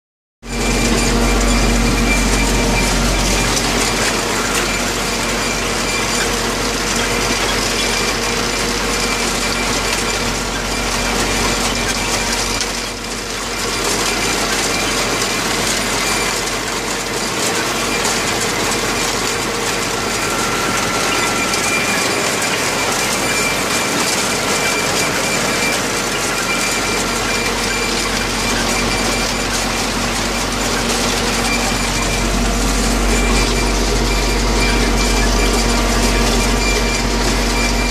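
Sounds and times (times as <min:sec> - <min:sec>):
tractor engine running: 0:00.4 - 0:37.9
harvester rattling: 0:00.5 - 0:37.9.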